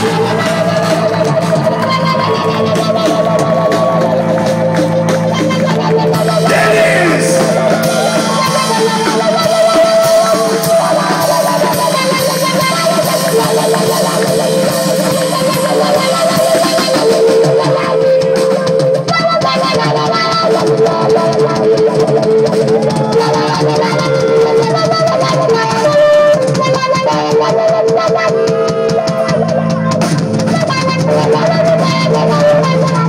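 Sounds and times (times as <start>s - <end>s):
electric guitar: 0.0s - 33.0s
rock band playing live: 0.0s - 33.0s.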